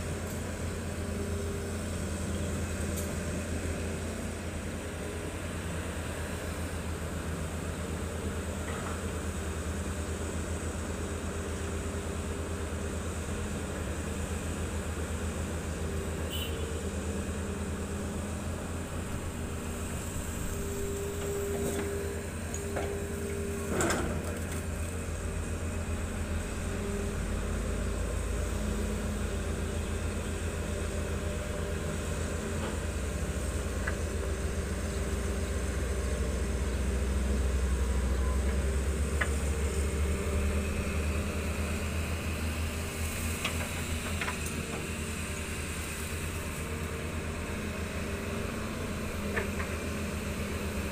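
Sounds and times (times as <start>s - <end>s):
excavator diesel engine rumbling: 0.0s - 50.9s.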